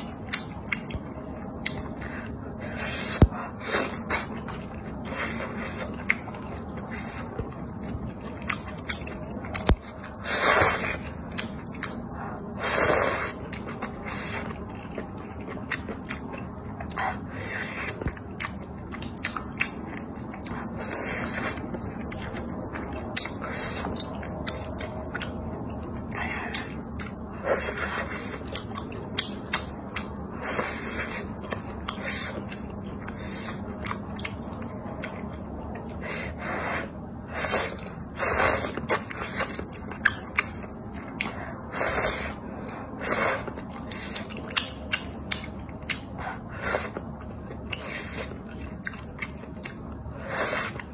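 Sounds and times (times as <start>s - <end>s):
person slurping and chewing food: 0.0s - 50.9s.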